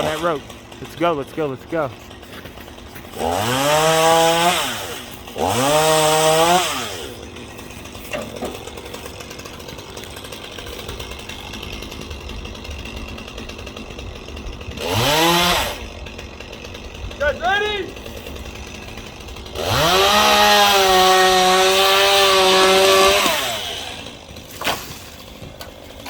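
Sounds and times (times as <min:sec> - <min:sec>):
chainsaw revving and idling: 0:00.0 - 0:26.0.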